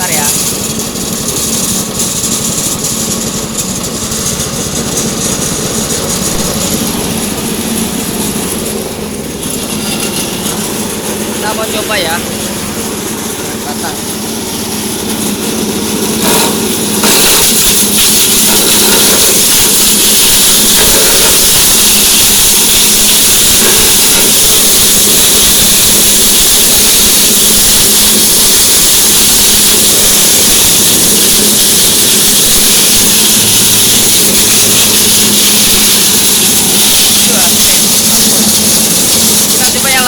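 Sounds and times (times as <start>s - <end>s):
grass being shredded: 0.0s - 40.0s
petrol engine running: 0.0s - 40.0s.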